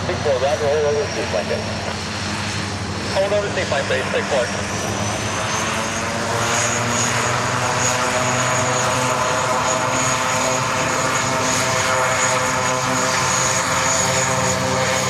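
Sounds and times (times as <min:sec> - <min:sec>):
aircraft engines whining and droning: 0:00.0 - 0:15.0.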